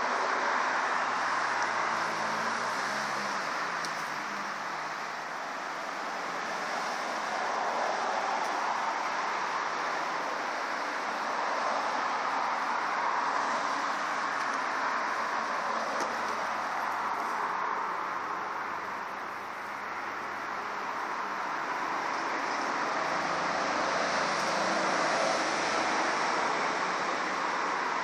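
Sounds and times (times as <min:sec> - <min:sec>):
rushing background noise: 0:00.0 - 0:28.0.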